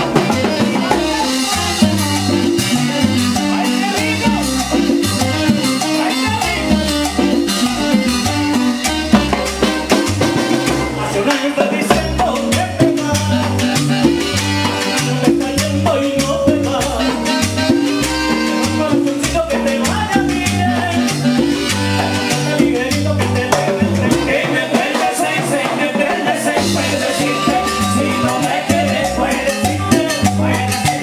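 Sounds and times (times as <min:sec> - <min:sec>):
keyboard chords: 0:00.0 - 0:11.2, 0:12.0 - 0:24.6, 0:26.5 - 0:31.0
bass line: 0:00.0 - 0:31.0
steady percussion: 0:00.0 - 0:31.0.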